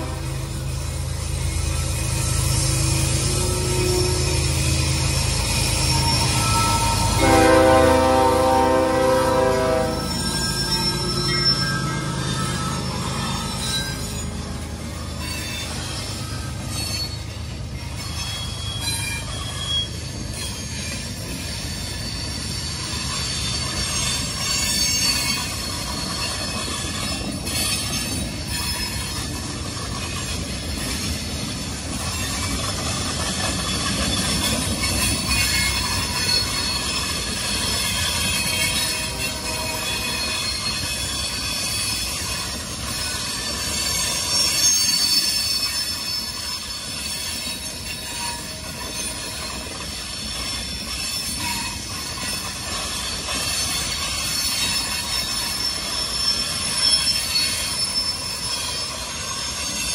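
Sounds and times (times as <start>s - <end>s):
low rumble of train wheels: 0.0s - 59.9s
train wheels squealing on rails: 0.0s - 59.9s.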